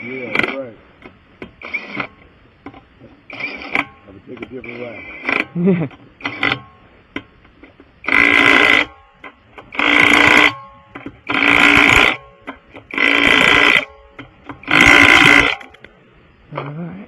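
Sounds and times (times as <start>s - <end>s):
pneumatic impact wrench bursts: 0.0s - 6.9s, 7.6s - 16.0s.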